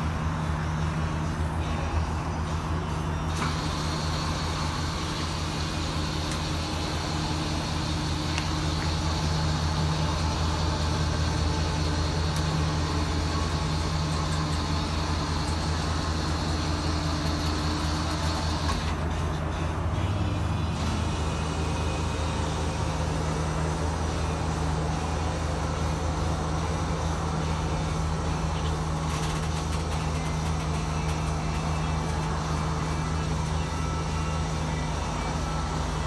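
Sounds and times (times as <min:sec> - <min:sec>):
vehicle engine idling: 0:00.0 - 0:36.0.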